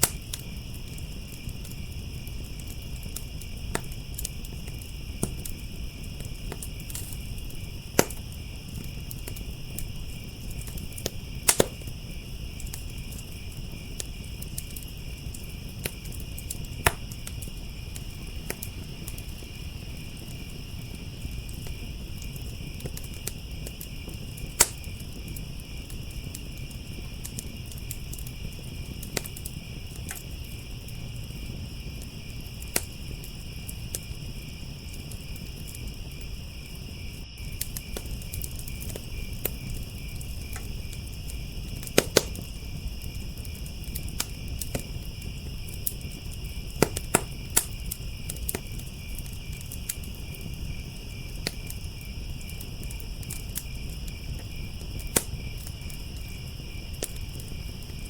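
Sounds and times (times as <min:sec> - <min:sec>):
crickets chirping: 0:00.0 - 0:58.0
fire crackling: 0:00.0 - 0:58.0
sharp pops of fire: 0:00.0 - 0:58.0.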